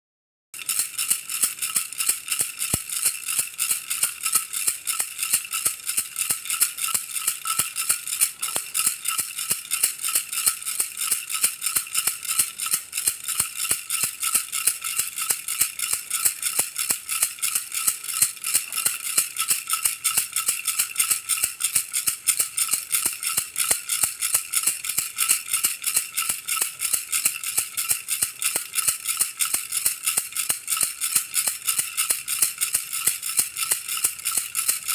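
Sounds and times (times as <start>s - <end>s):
baby rattle shaken: 0.6s - 34.9s.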